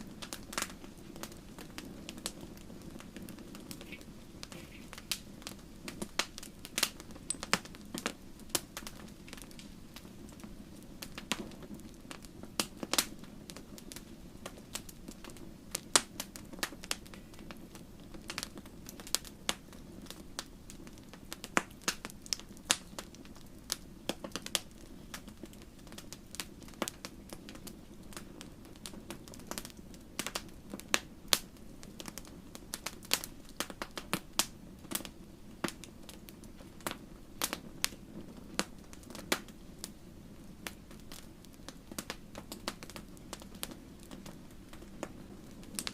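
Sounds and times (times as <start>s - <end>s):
flames rushing: 0.0s - 45.9s
wood fire crackling and popping: 0.0s - 45.9s.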